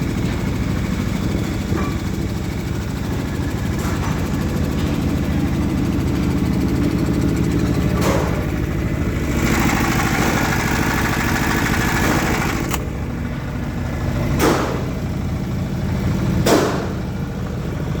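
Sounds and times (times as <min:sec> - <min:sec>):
diesel generator running: 0:00.0 - 0:18.0.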